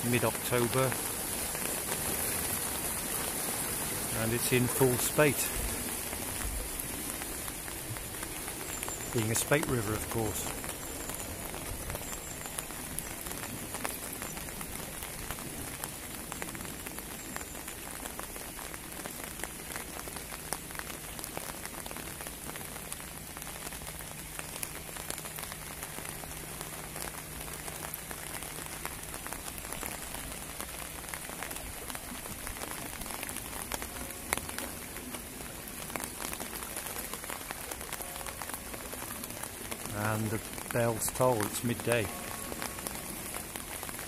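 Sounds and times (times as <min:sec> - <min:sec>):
rain pattering: 0:00.0 - 0:44.0.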